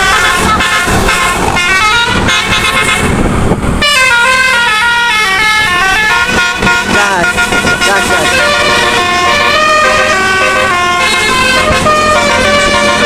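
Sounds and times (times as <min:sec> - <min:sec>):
musical air horn playing tune: 0:00.0 - 0:13.0.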